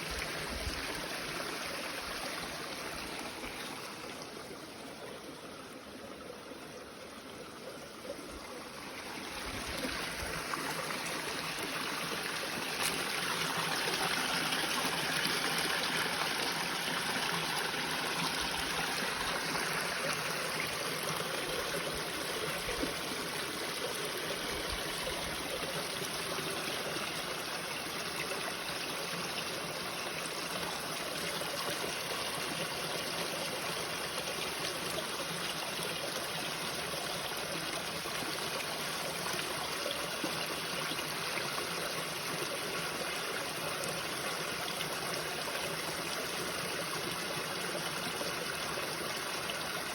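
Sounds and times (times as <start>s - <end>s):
waterfall flowing and splashing: 8.5s - 49.9s.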